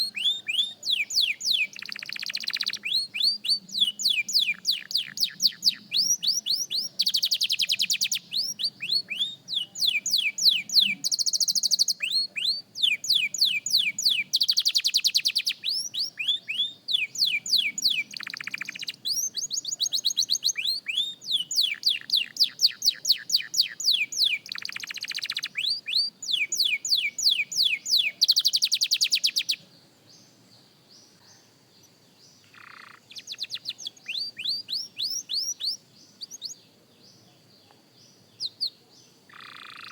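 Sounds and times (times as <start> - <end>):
canary singing: 0.0 - 30.3, 30.9 - 39.9.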